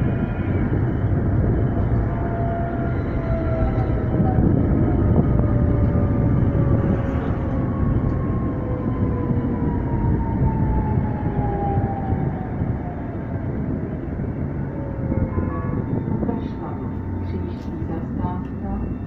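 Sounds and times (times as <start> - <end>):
tram rumbling with whine: 0.0 - 19.0.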